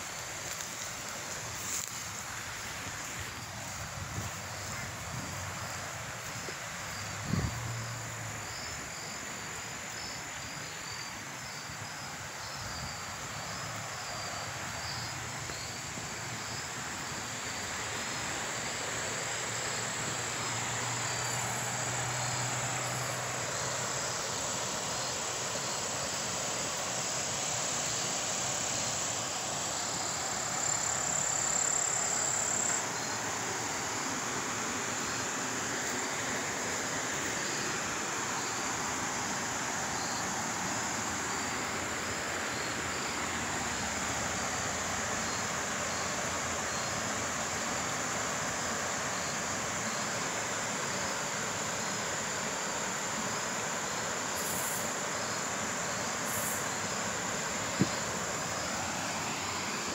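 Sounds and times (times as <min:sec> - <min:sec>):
insects chirping in pulses: 0:00.0 - 0:59.9
steady rushing hiss: 0:00.0 - 0:59.9.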